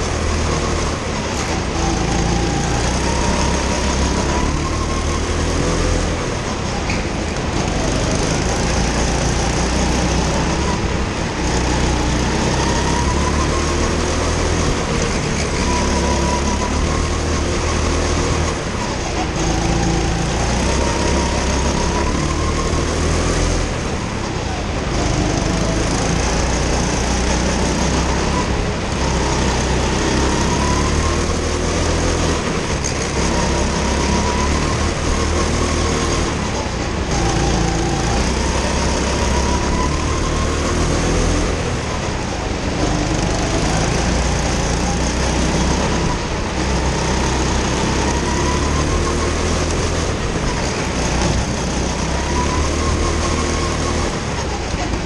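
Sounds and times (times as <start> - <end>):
go-kart engine running hard: 0.0 - 55.0
track noise: 0.0 - 55.0.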